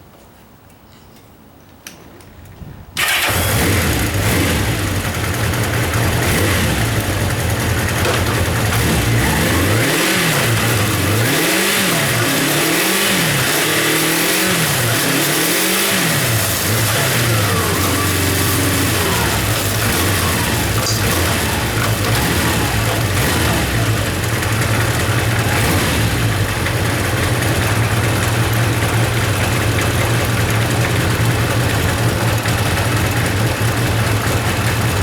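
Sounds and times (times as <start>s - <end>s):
motorcycle engine idling and revving: 3.0s - 35.0s.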